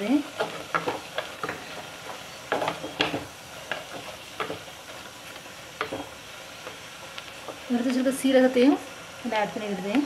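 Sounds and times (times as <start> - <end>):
low sizzle: 0.0 - 10.0.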